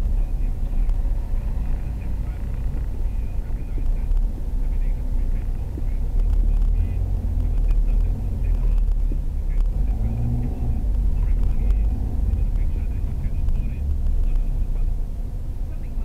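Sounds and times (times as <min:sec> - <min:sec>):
car engine and tyres on road: 0:00.0 - 0:16.0.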